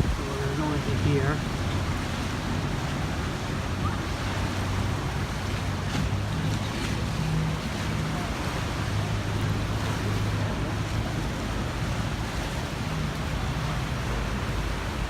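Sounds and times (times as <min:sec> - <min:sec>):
boat engine humming: 0:00.0 - 0:15.0
sea water rushing: 0:00.0 - 0:15.0
wind: 0:00.0 - 0:15.0.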